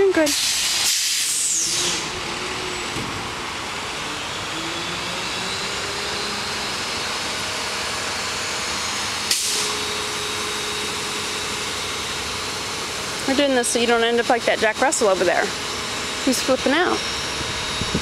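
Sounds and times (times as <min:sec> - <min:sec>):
garbage truck running: 0:00.0 - 0:18.0.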